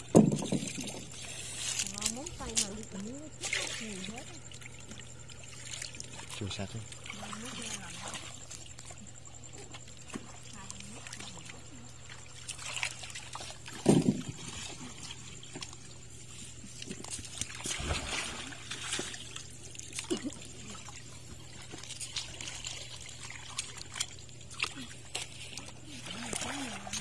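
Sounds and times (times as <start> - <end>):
water trickling and lapping: 0.0 - 27.0.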